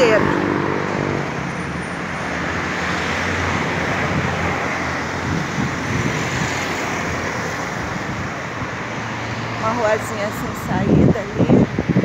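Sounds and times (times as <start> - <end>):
cars driving past: 0.0 - 12.0
steady traffic rumble: 0.0 - 12.0.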